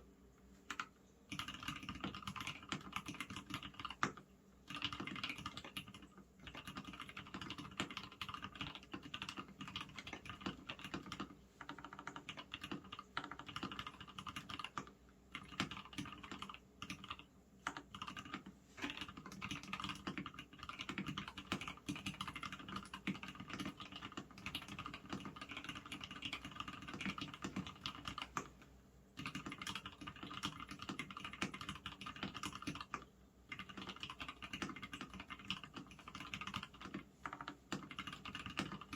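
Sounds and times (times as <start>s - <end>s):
fast typing on mechanical keyboard: 0.7s - 28.5s, 29.2s - 38.9s.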